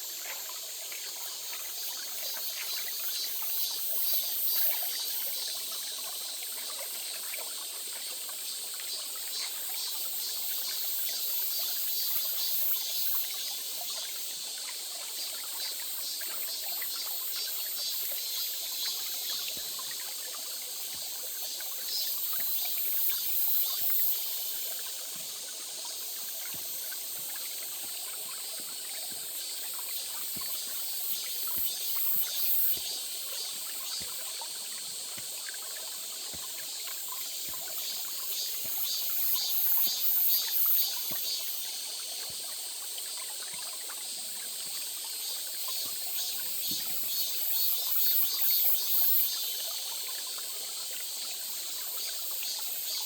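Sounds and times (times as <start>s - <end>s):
stream trickling: 0.0s - 53.0s.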